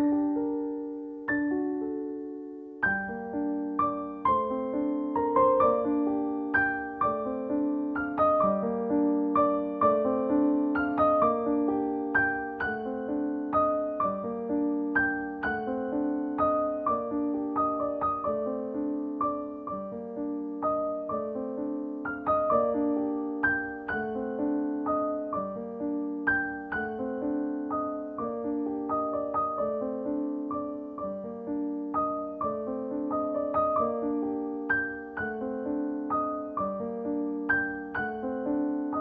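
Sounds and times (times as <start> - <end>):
calm piano music: 0.0 - 39.0.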